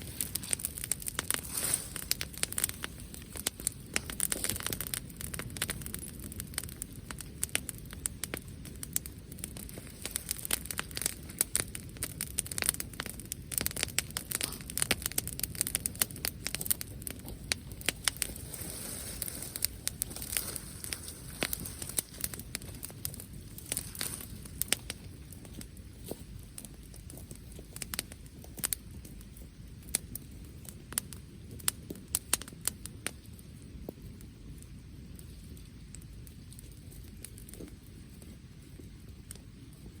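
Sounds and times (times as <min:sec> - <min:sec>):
bonfire crackling and popping: 0:00.0 - 0:40.0
soft hiss: 0:00.0 - 0:40.0.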